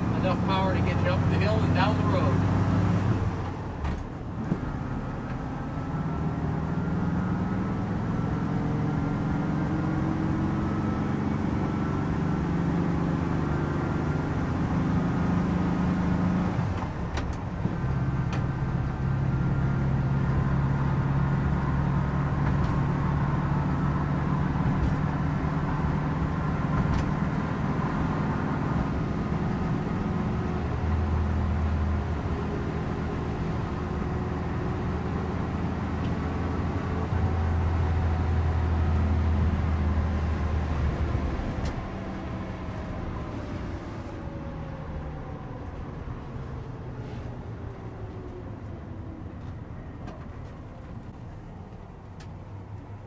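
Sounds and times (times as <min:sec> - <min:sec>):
road noise: 0:00.0 - 0:53.0
van engine running: 0:00.0 - 0:53.0.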